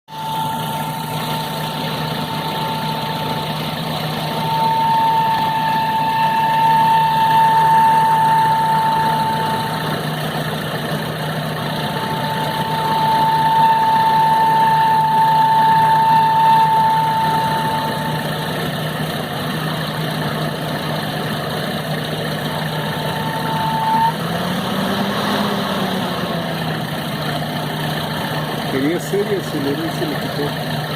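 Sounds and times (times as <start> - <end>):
high-pitched whine: 0.0 - 30.9
van engine idling: 0.1 - 30.9.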